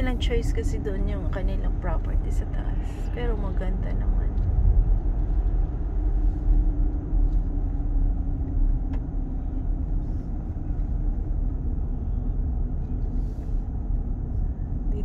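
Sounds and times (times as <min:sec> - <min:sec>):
car road rumble: 0:00.0 - 0:15.0
faint steady hum: 0:00.0 - 0:15.0.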